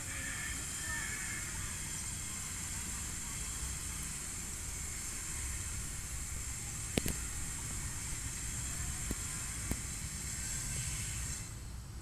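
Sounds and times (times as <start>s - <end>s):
constant high hiss: 0.0s - 12.0s.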